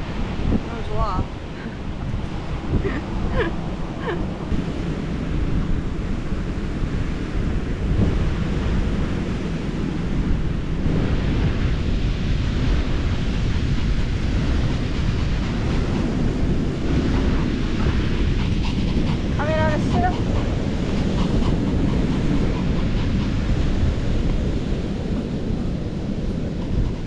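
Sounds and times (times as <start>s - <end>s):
sea surf rushing: 0.0s - 27.0s
wind buffeting microphone: 0.0s - 27.0s.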